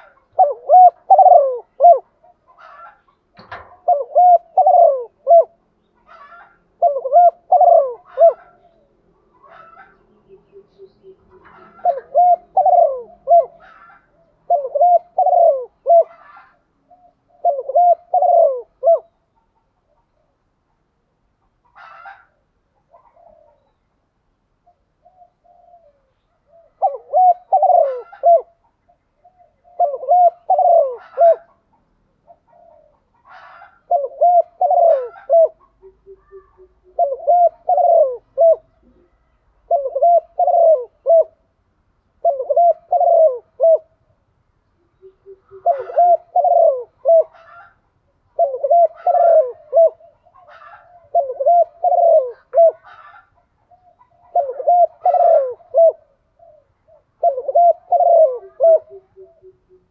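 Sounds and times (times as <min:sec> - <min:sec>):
dove cooing: 0:00.0 - 0:20.4, 0:21.5 - 0:23.8, 0:24.6 - 0:41.5, 0:42.2 - 0:44.1, 0:44.8 - 0:59.9.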